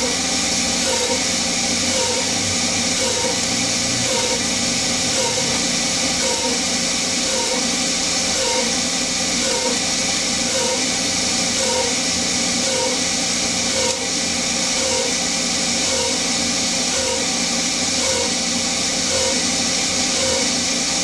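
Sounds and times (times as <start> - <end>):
air compressor noise: 0.0 - 21.0
lathe turning metal: 0.0 - 21.0.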